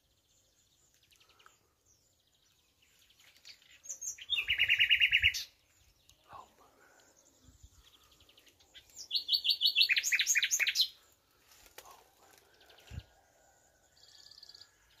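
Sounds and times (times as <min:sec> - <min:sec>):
nightingale singing: 0:00.0 - 0:11.2, 0:12.6 - 0:15.0.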